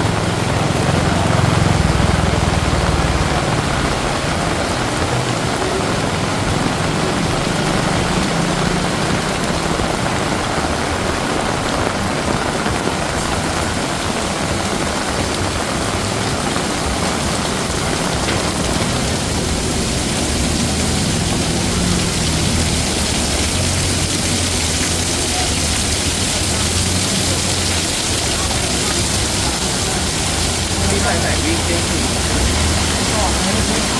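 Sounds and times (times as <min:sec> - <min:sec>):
city traffic rumble: 0:00.0 - 0:33.9
heavy rain hissing: 0:00.0 - 0:33.9.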